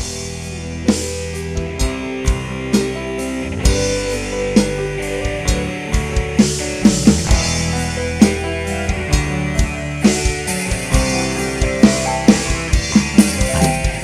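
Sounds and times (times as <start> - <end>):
drum strokes dropping in pitch: 0.0 - 14.0
live band playing: 0.0 - 14.0.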